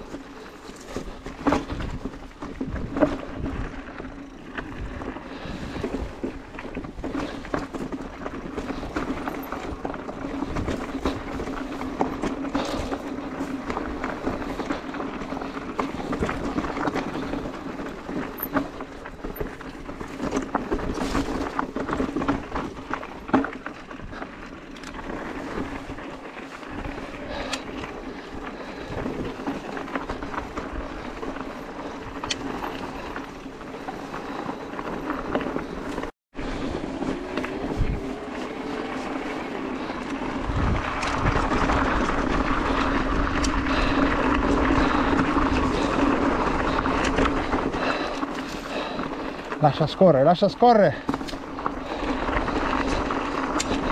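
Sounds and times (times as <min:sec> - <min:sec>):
tyres crunching on loose stones: 0:00.0 - 0:36.1, 0:37.0 - 0:53.9
bike rattling: 0:00.0 - 0:53.9.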